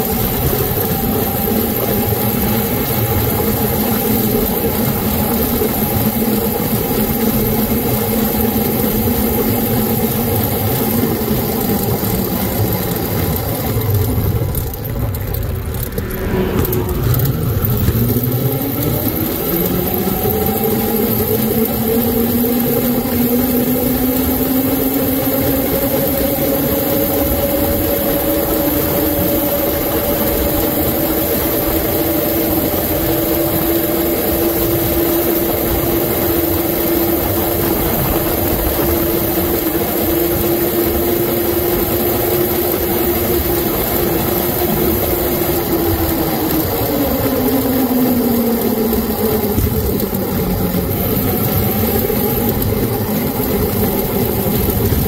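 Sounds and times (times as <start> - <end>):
electric motor whining: 0.0 - 55.0
wind and road noise: 0.0 - 55.0.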